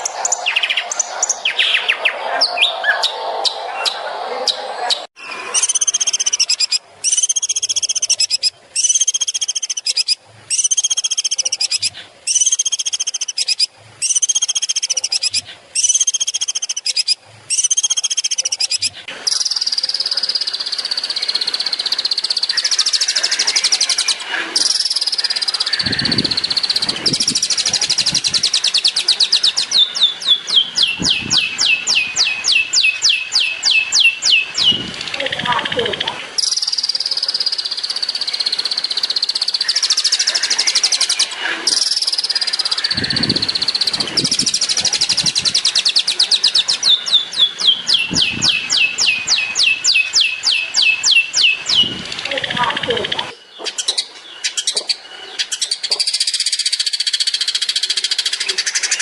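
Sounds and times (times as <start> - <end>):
shrike singing: 0.0 - 54.7.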